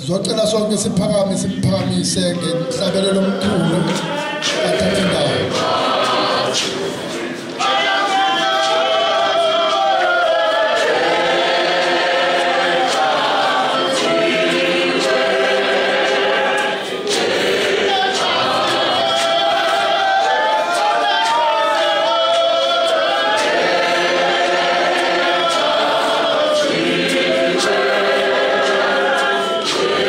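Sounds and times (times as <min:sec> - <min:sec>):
congregation singing a hymn: 0:00.9 - 0:30.0.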